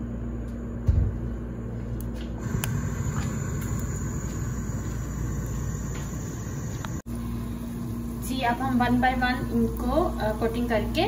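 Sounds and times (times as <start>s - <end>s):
gas stove burner rumble: 0.0s - 11.0s.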